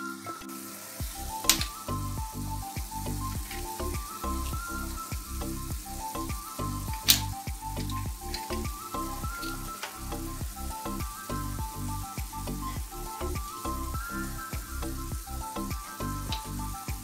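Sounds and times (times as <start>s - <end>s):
background music: 0.0s - 17.0s
food sizzling in oil: 0.0s - 17.0s.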